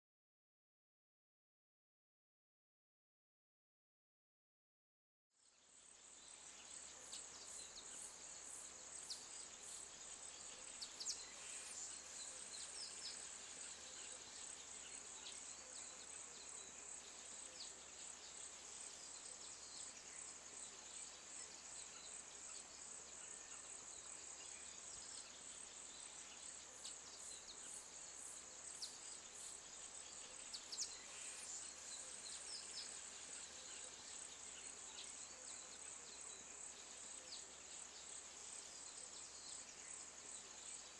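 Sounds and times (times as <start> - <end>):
high insect drone: 5.6 - 40.9.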